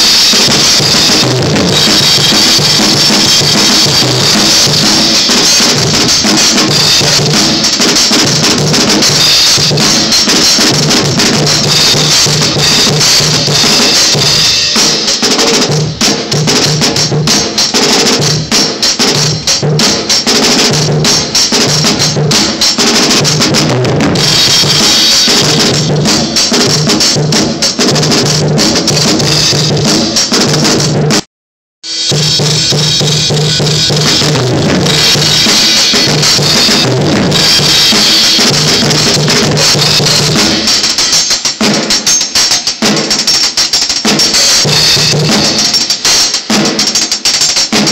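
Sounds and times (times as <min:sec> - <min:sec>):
drum kit playing: 0:00.0 - 0:47.9.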